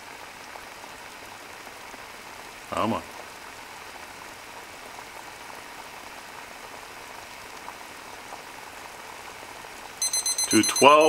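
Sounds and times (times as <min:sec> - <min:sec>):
water bubbling on stove: 0:00.0 - 0:10.0.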